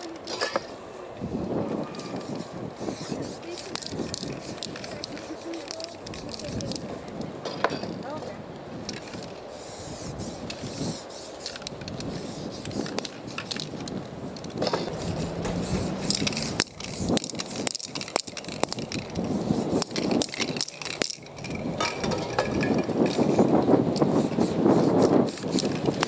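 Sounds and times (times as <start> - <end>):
spray paint cans hissing: 0.0 - 8.2, 8.8 - 26.0
cans and stencils clicking: 1.9 - 8.1, 10.2 - 26.0.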